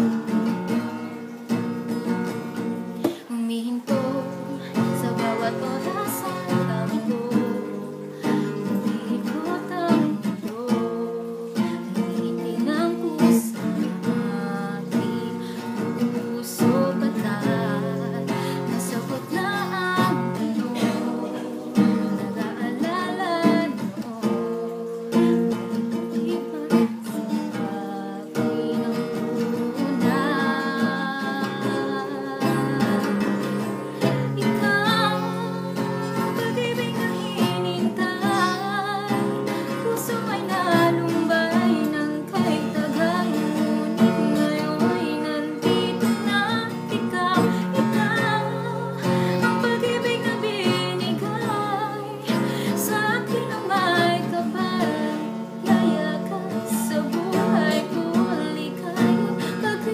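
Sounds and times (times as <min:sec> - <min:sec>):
strummed acoustic guitar: 0:00.0 - 0:59.9
woman singing a pop ballad: 0:00.0 - 0:59.9.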